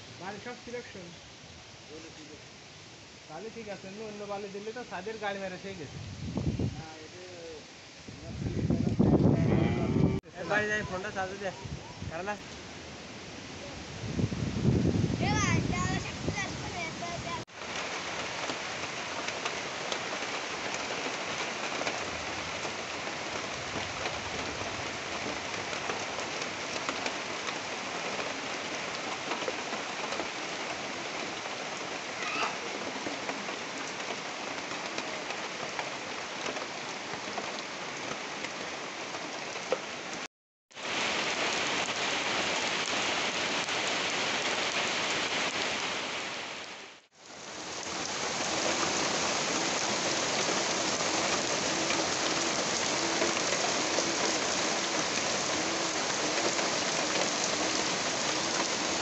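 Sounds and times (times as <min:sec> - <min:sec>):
heavy rain on tin roofs: 0:00.0 - 0:59.0.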